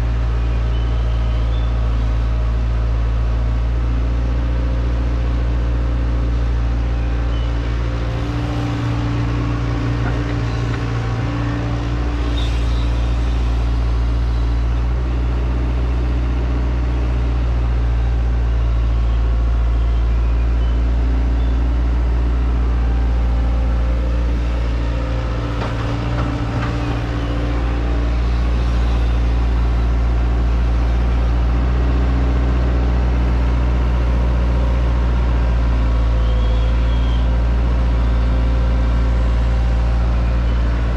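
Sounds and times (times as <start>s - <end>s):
excavator diesel engine drone: 0.0s - 40.9s.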